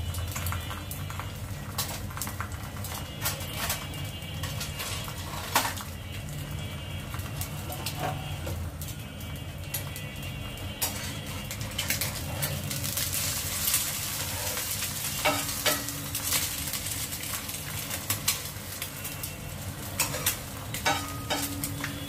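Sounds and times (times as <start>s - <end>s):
eggs frying with crackles and pops: 0.0s - 22.0s
gas burner hum: 0.0s - 22.0s.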